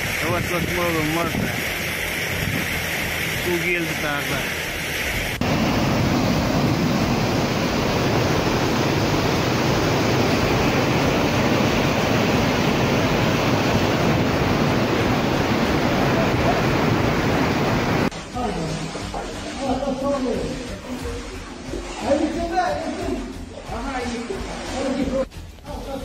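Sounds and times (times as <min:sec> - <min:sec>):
floodwater rushing: 0:00.0 - 0:25.3.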